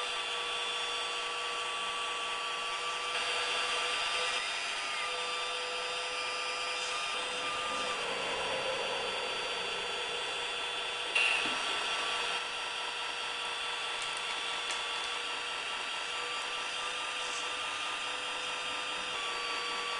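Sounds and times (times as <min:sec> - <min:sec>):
small electric motors whining: 0:00.0 - 0:19.9.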